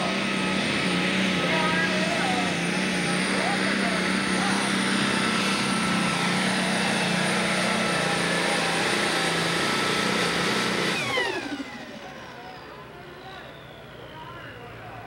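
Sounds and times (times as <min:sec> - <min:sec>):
high engine whine: 0:00.0 - 0:15.0
tractor diesel engine roaring: 0:00.0 - 0:15.0.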